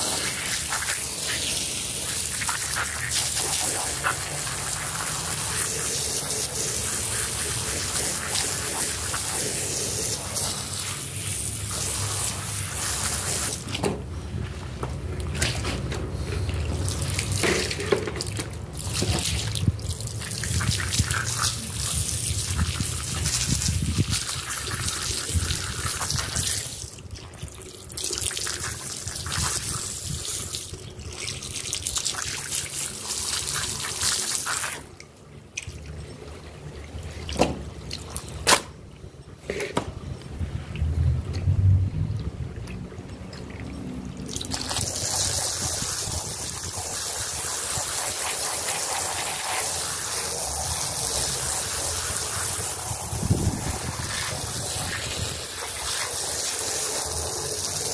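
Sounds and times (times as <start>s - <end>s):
water jet spraying on rug: 0.0s - 13.9s, 15.2s - 34.9s, 44.2s - 57.9s.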